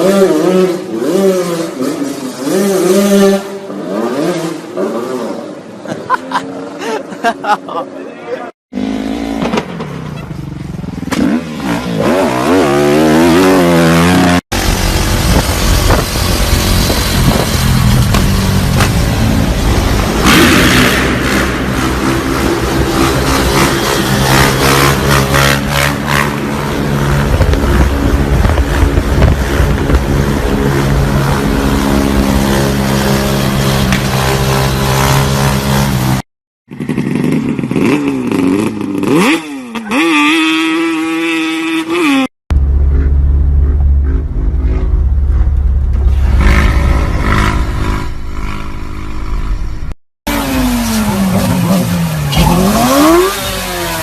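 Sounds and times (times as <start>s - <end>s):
motorcycle engines revving: 0.0s - 6.9s, 8.7s - 54.0s.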